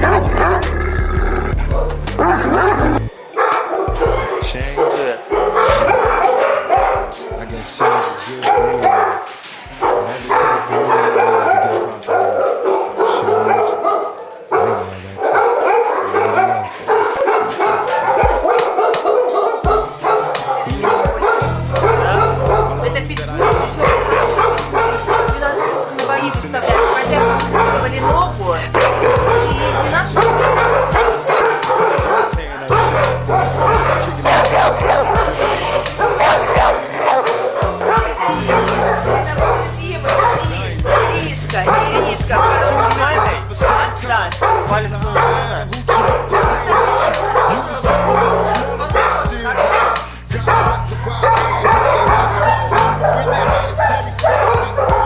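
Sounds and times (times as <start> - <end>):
background music: 0.0 - 55.0
dogs barking and yelping: 0.0 - 55.0.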